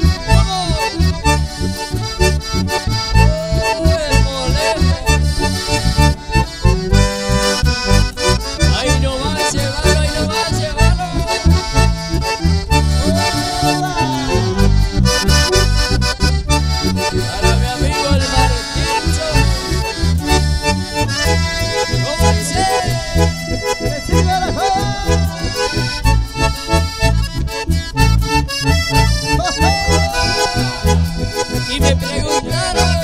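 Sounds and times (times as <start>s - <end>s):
accordion: 0.0s - 33.0s
acoustic guitar: 0.0s - 33.0s
pulsing bass guitar: 0.0s - 33.0s.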